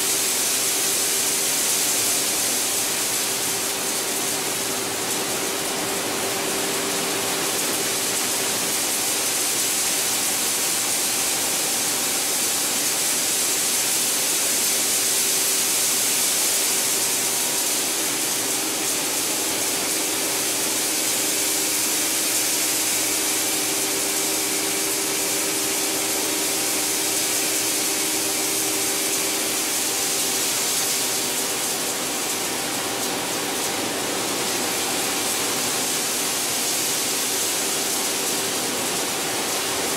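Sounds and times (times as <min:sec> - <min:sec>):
spraying and falling water: 0:00.0 - 0:39.9.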